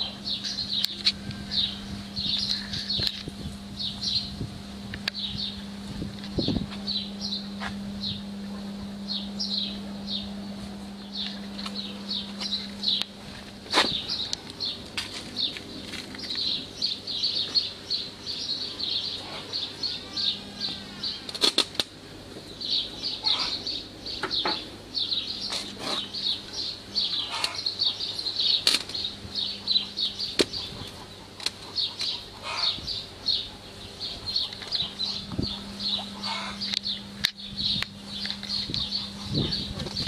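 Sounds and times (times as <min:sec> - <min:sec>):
constant high chirping: 0:00.0 - 0:40.0
steady low hum: 0:00.0 - 0:40.0.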